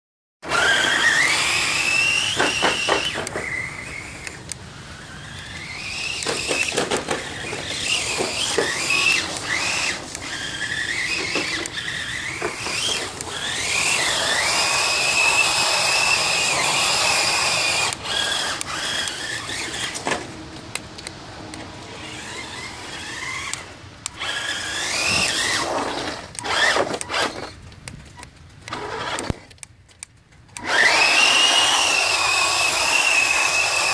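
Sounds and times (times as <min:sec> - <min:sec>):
electric motor whining: 0:00.4 - 0:20.3, 0:21.9 - 0:27.6, 0:28.7 - 0:29.5, 0:30.6 - 0:33.9.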